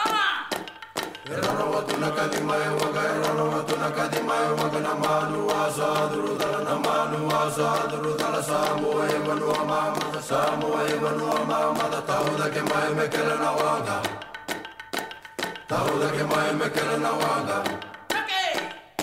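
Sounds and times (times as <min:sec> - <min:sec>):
chant-like singing: 0:01.2 - 0:14.4, 0:15.7 - 0:18.6.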